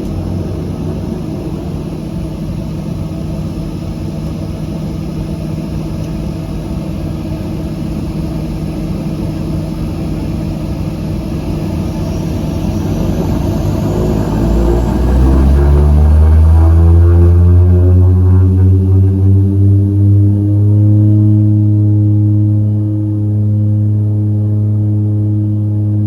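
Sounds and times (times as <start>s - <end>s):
faint rising whine: 0.0s - 26.0s
turboprop engines droning: 0.0s - 26.0s.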